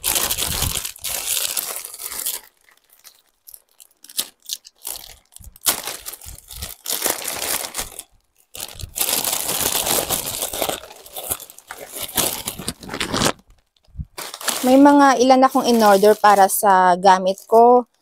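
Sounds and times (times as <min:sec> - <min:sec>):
plastic bag rustling and tearing: 0:00.0 - 0:16.8.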